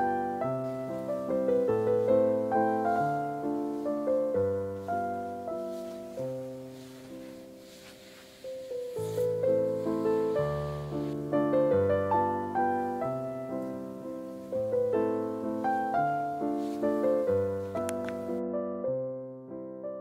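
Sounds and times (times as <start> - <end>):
gentle solo piano piece: 0.0 - 20.0.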